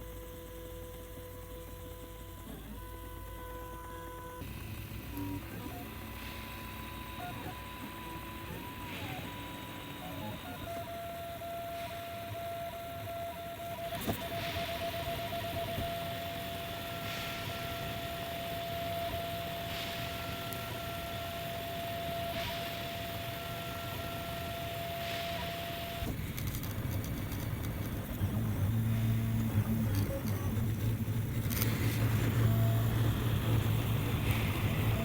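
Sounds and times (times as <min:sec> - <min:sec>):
stepper motors whining: 0:00.0 - 0:35.0.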